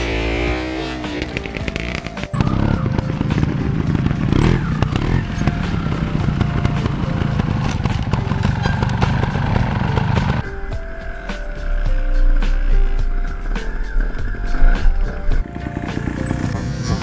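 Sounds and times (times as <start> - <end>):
motorcycle engine revving: 0.0 - 10.5, 11.2 - 17.0.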